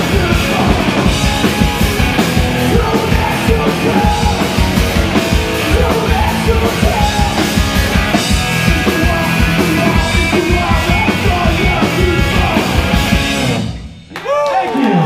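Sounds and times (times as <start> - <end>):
punk rock band playing: 0.0 - 14.1.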